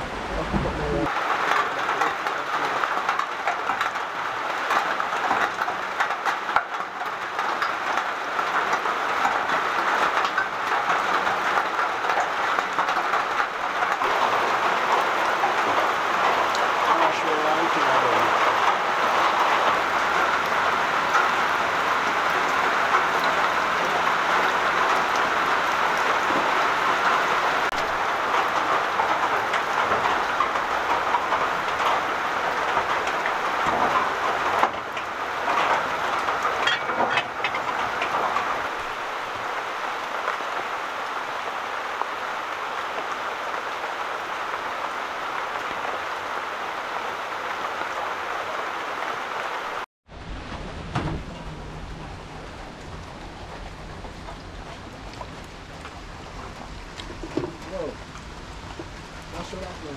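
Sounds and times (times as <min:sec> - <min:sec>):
heavy rain splashing into puddles: 0:00.0 - 0:59.9.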